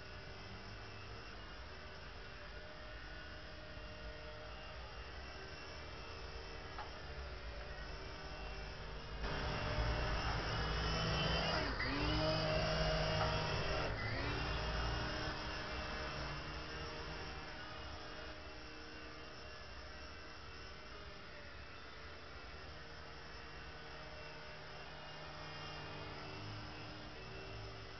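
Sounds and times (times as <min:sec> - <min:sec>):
toy helicopter motors whining: 0:00.0 - 0:27.9.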